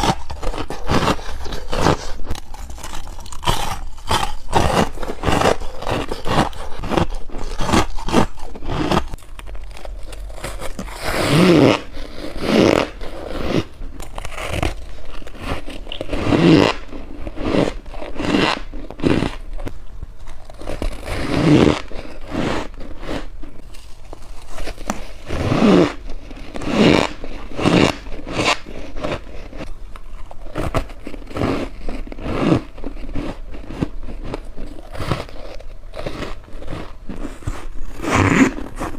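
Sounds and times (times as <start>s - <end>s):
crunchy chewing of frost: 0.0s - 38.9s.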